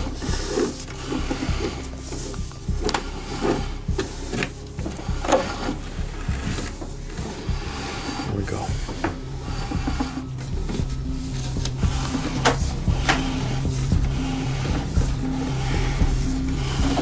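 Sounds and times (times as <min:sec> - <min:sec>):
rope and gear scraping in pipe: 0:00.0 - 0:17.0.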